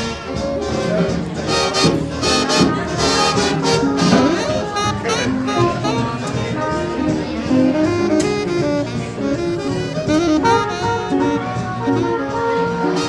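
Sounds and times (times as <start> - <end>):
horn playing melody: 0.0 - 13.0
upright double bass: 0.0 - 13.0.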